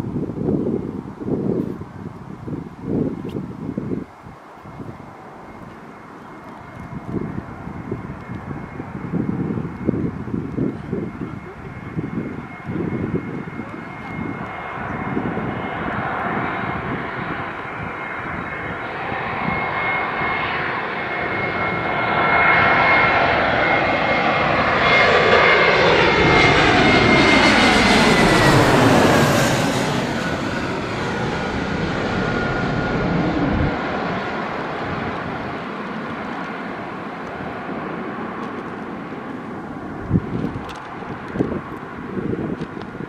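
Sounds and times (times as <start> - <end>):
jet airliner passing by: 0.0 - 43.0
jet engine fan whine: 0.0 - 43.0.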